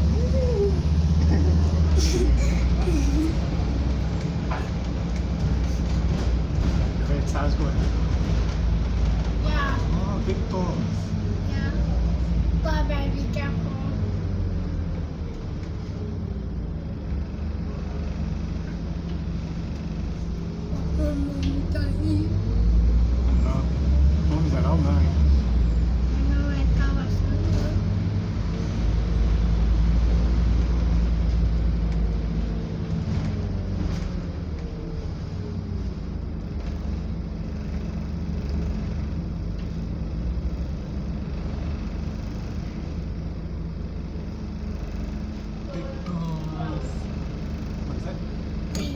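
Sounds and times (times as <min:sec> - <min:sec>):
bus diesel engine droning: 0:00.0 - 0:48.9
road rumble: 0:00.0 - 0:48.9.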